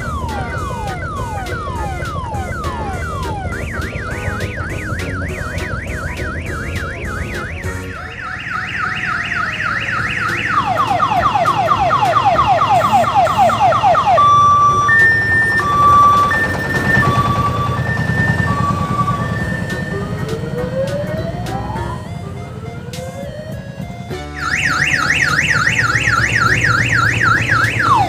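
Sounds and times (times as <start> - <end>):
electronic siren cycling: 0.0 - 28.0
low engine rumble: 0.0 - 28.0.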